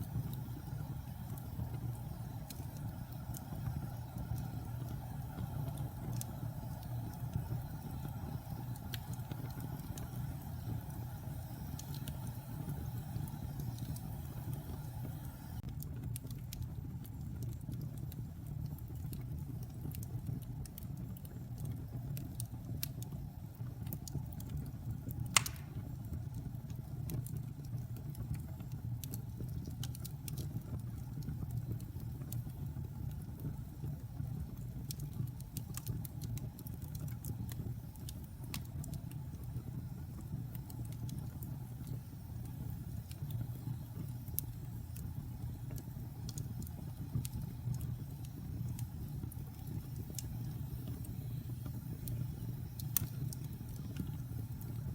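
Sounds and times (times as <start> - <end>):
fire crackling and popping: 0.0 - 54.9
loud crack of fire: 0.0 - 54.9.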